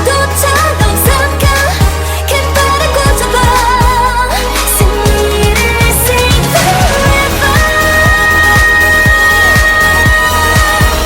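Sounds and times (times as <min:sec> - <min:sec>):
heavy bass: 0:00.0 - 0:11.0
synth melody: 0:01.2 - 0:11.0.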